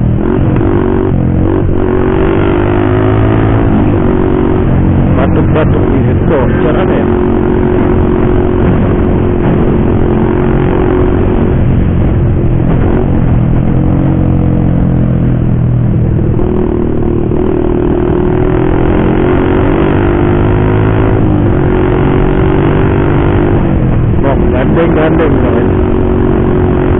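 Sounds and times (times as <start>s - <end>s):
motorcycle racing exhaust: 0.0s - 26.9s.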